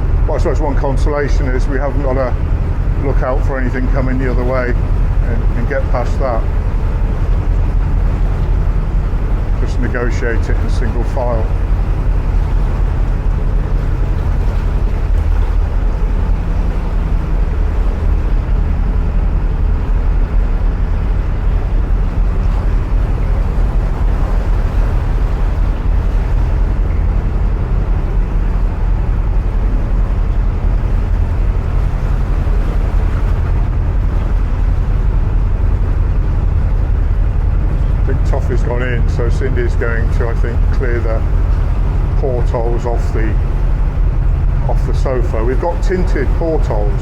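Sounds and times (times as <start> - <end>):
boat engine rumbling: 0.0 - 47.0.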